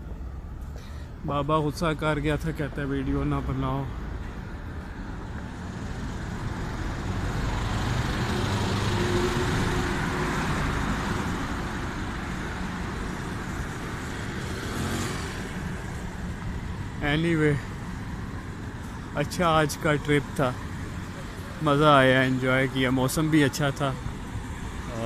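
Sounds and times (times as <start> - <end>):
cars driving past: 1.8 - 25.0.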